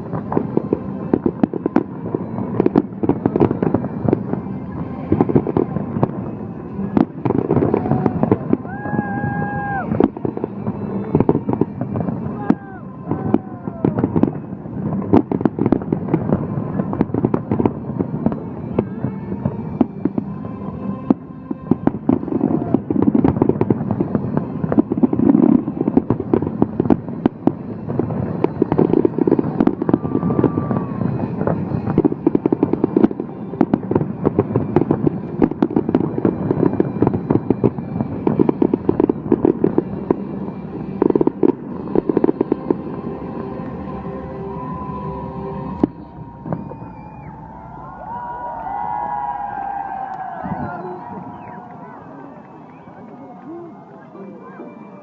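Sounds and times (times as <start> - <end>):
fireworks banging and crackling: 0.0 - 55.0.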